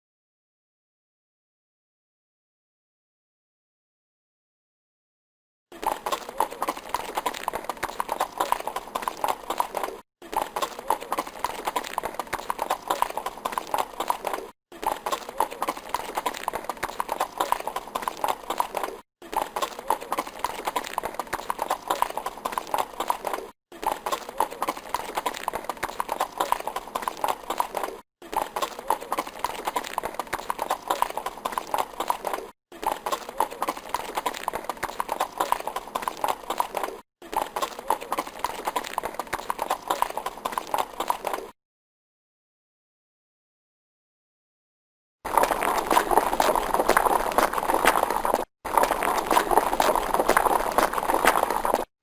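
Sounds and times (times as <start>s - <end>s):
horse hooves clip-clopping: 5.8s - 41.5s, 45.3s - 51.9s.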